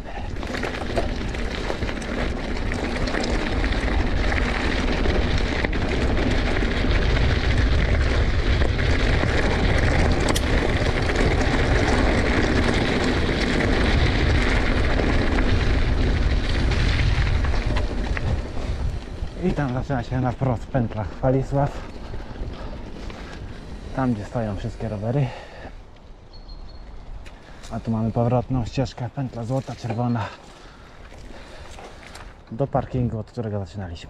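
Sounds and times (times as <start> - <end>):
wind buffeting microphone: 0.0 - 33.3
tyres rolling over dirt: 0.0 - 34.0.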